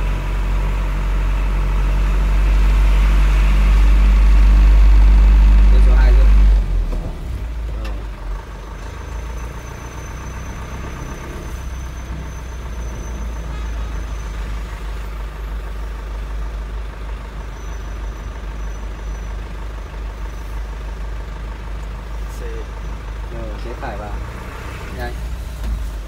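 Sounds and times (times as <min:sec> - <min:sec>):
truck engine rumble: 0:00.0 - 0:26.0.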